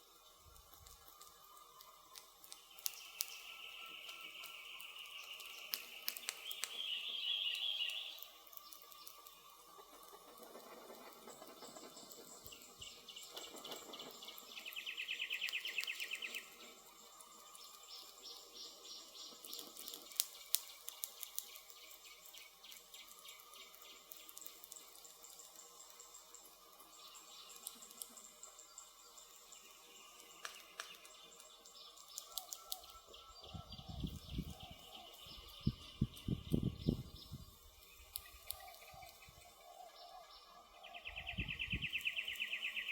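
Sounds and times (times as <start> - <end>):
campfire crackling: 0.0 - 42.9
forest ambience: 0.0 - 42.9.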